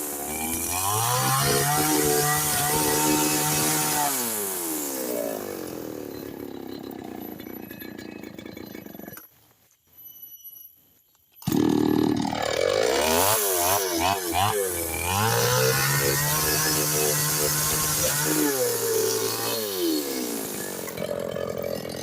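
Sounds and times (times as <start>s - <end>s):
chainsaw engine revving: 0.0s - 9.2s, 11.4s - 22.0s.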